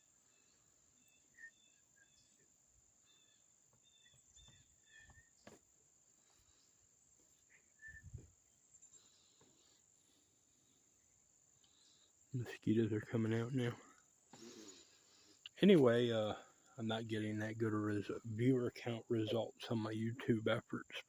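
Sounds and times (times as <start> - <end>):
soft bird chirps: 0.0 - 20.9.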